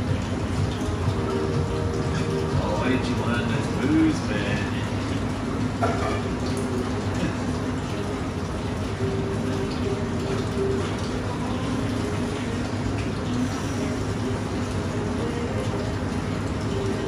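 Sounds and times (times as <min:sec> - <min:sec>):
pump humming: 0:00.0 - 0:17.0
water rushing in tub: 0:00.0 - 0:17.0.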